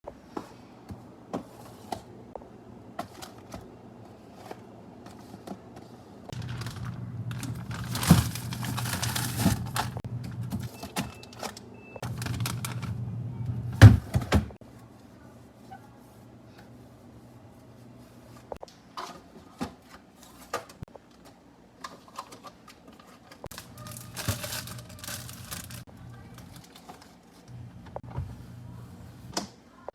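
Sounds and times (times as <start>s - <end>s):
low hum with hiss: 0.1s - 22.5s, 23.6s - 29.9s.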